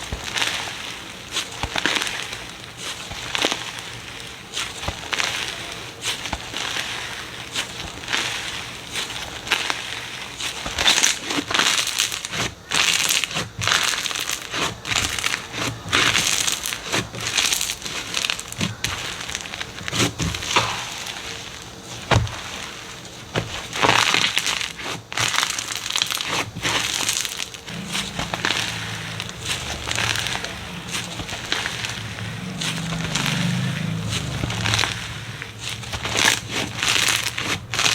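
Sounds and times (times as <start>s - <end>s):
slime crackling and crunching: 0.0s - 37.9s.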